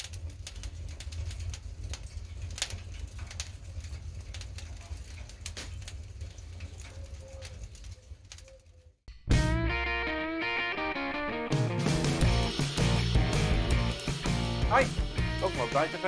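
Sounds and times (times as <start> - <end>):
flames rumbling: 0.0 - 9.0, 11.8 - 16.0
logs crackling and popping: 0.0 - 9.0, 12.1 - 16.0.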